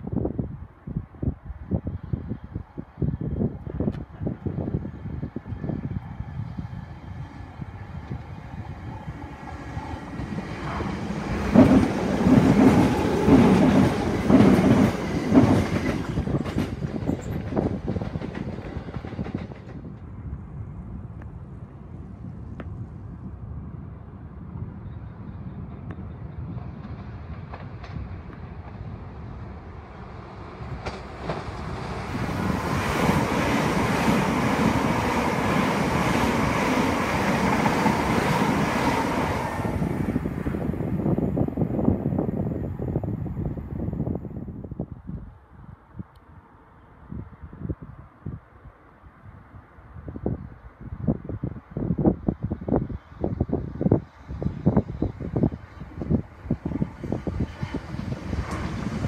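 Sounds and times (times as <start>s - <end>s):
train passing at speed: 0.0s - 48.3s, 48.9s - 59.0s.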